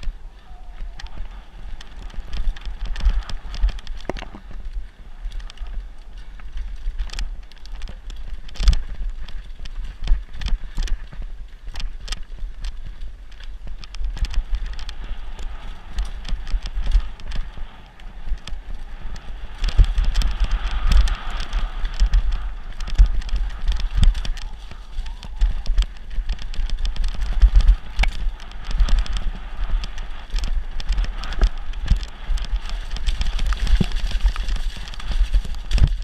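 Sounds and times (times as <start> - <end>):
bike rattling over roots and rocks: 0.0 - 36.0
wind buffeting microphone: 0.0 - 36.0.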